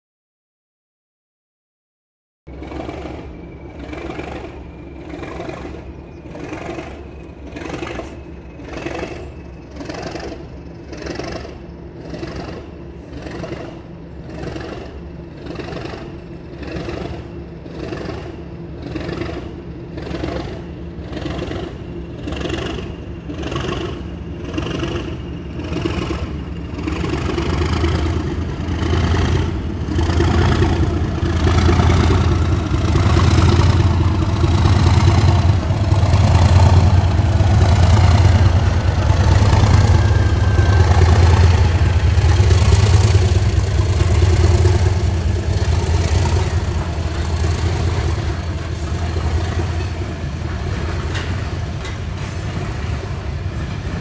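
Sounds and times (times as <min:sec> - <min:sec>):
diesel locomotive engine rumbling: 0:02.5 - 0:54.0.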